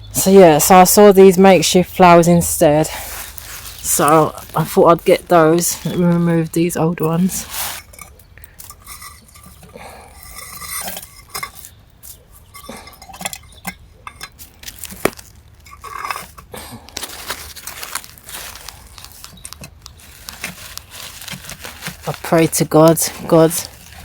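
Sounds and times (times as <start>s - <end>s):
stems and wrapping rustling: 0.0s - 24.0s.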